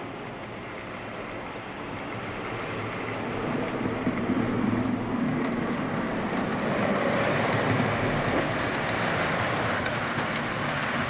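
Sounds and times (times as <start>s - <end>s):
model train wheels rumbling: 0.0s - 11.0s.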